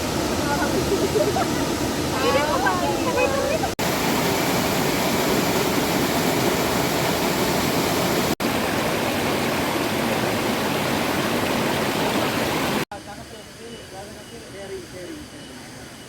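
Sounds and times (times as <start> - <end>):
heavy rain pouring: 0.0 - 12.9.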